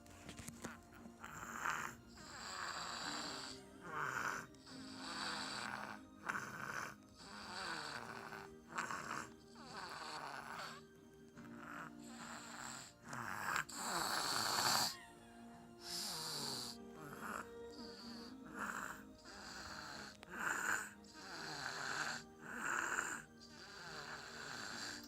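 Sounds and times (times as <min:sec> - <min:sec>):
baby snoring: 0:00.0 - 0:15.1, 0:15.7 - 0:25.0.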